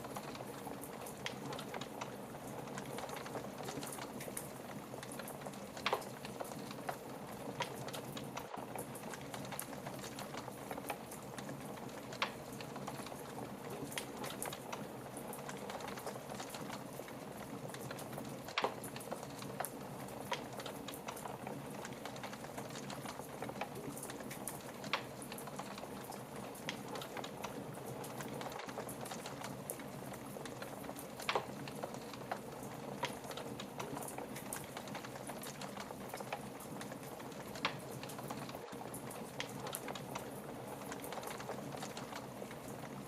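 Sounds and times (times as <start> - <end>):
fire hissing and crackling: 0.0 - 43.0.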